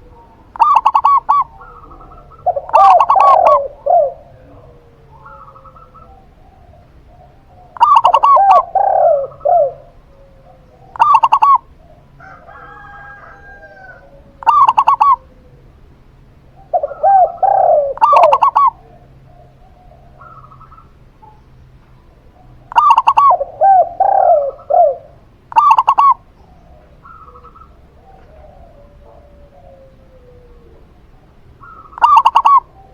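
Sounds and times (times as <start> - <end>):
doves cooing: 0.0 - 32.9.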